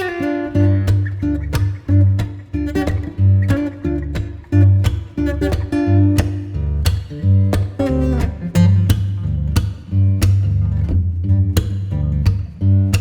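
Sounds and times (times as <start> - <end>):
steady bass beat: 0.0 - 13.0.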